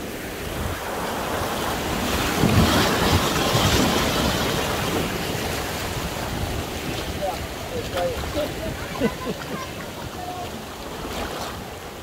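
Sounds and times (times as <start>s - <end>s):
river water rushing: 0.0s - 12.0s
wind buffeting microphone: 0.4s - 11.9s.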